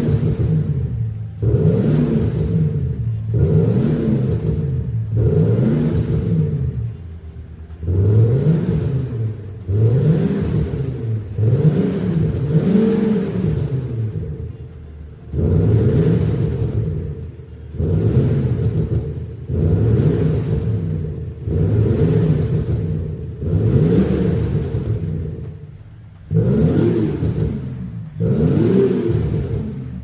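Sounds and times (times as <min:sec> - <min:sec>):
synthetic engine revving: 0:00.0 - 0:30.0.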